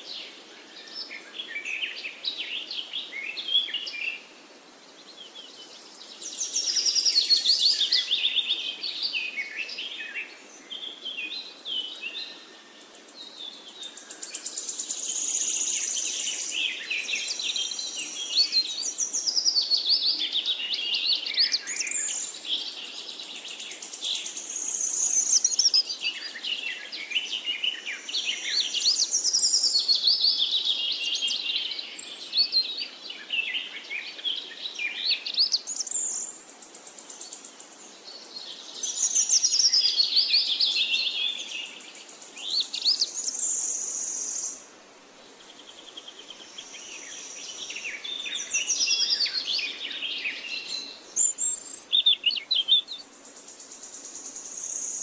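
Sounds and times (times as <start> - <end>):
faint outdoor hiss: 0.0 - 55.0
songbirds singing: 0.0 - 55.0.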